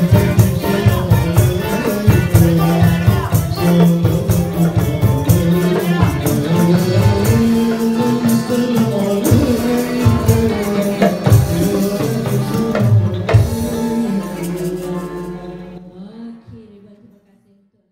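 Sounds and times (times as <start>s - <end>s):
tambourine beating: 0.0s - 15.4s
accordion: 0.0s - 16.8s.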